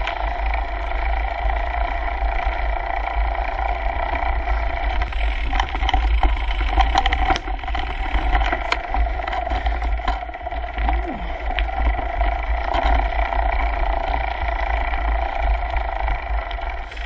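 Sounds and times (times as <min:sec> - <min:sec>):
bike rattling: 0:00.0 - 0:17.0.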